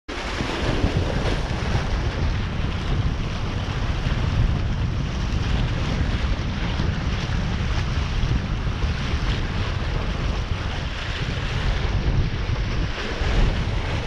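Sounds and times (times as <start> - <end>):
waves washing: 0.1 - 14.0
wind buffeting microphone: 0.1 - 14.0.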